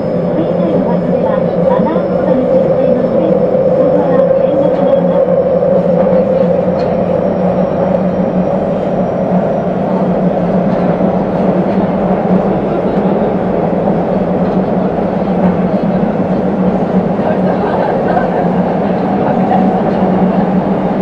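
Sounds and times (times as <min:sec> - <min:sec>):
subway train equipment hum: 0:00.0 - 0:21.0.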